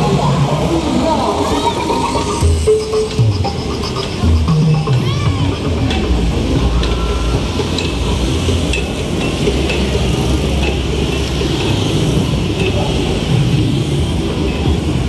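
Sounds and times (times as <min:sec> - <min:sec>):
motorcycles rumbling: 0:00.0 - 0:15.0.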